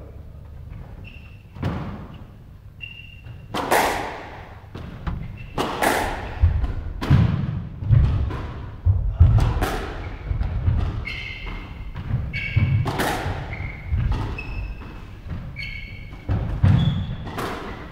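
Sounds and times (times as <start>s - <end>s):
shoes squeaking on wooden floor: 0.6s - 6.6s, 9.2s - 17.9s
squash ball hits echoing: 3.4s - 17.9s.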